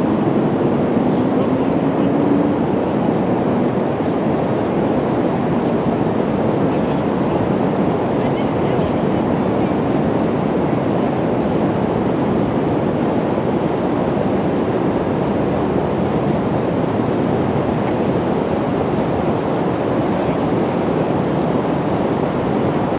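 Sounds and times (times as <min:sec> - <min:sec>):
ocean surf: 0:00.0 - 0:22.9
wind: 0:00.0 - 0:22.9.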